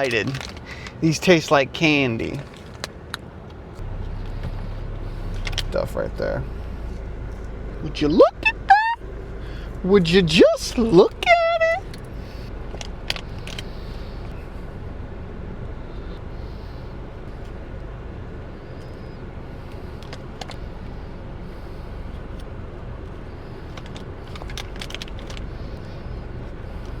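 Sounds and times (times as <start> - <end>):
car rumbling: 0.0 - 27.0.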